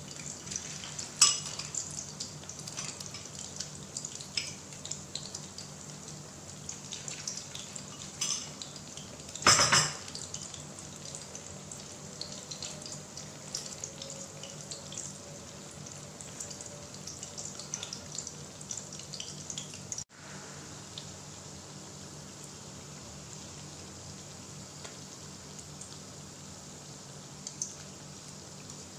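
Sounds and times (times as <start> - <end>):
meat sizzling in oil: 0.0 - 28.9.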